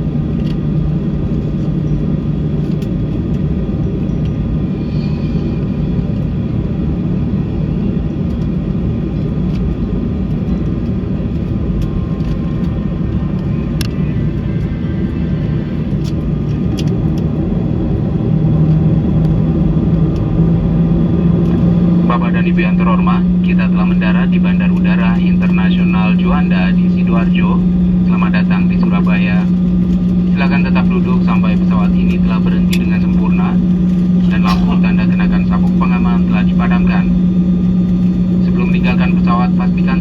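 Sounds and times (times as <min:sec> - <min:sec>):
jet engine cabin rumble: 0:00.0 - 0:40.0
low hum: 0:00.0 - 0:40.0.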